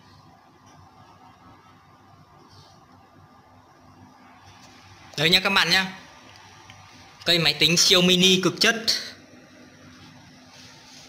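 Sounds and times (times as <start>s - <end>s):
computer fan whirring: 0.0s - 11.0s
low steady hum: 0.0s - 11.0s.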